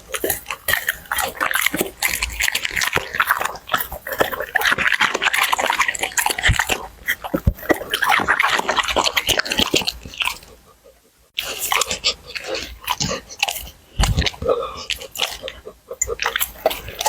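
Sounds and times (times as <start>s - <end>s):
dog chewing and crunching food: 0.0s - 17.0s.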